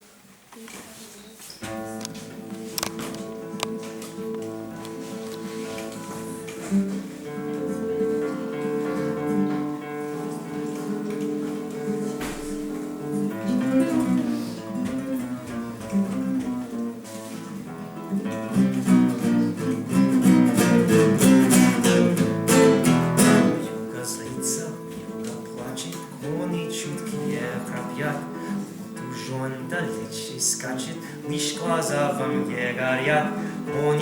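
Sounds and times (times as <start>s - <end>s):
acoustic guitar music: 1.6s - 34.0s.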